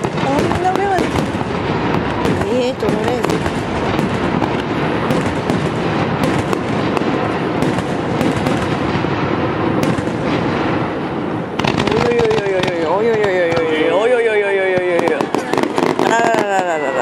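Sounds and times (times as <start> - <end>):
firework shells bursting: 0.0 - 16.9
fireworks crackling: 0.0 - 17.0.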